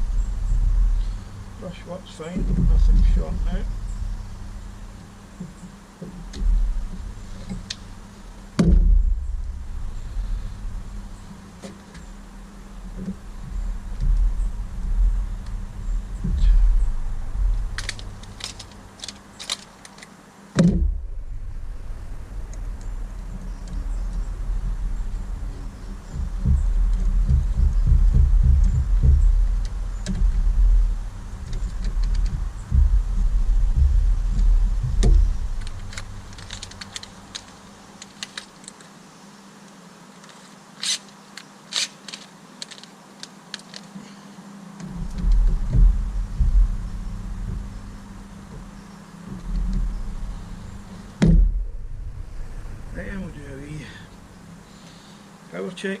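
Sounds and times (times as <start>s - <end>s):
low rumble: 0.0s - 19.0s, 20.6s - 37.1s, 44.8s - 54.7s
scraping rustles: 0.0s - 20.2s, 20.9s - 39.0s, 40.1s - 55.2s.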